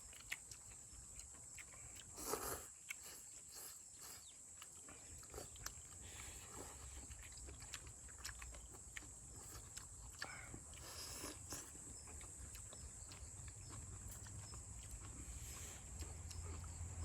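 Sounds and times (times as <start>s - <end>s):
noodles slurped and chewed: 0.0s - 17.0s.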